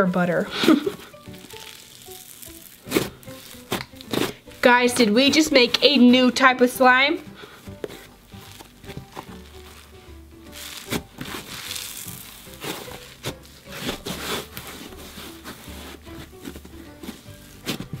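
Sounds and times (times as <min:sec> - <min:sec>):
background music with low bass: 0:00.0 - 0:18.0
slime crackling and squishing: 0:00.7 - 0:06.8, 0:07.5 - 0:18.0.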